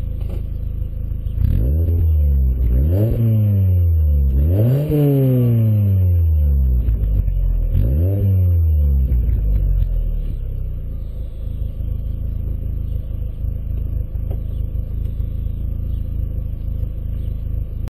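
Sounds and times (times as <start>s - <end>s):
car exhaust idling: 0.0s - 17.9s.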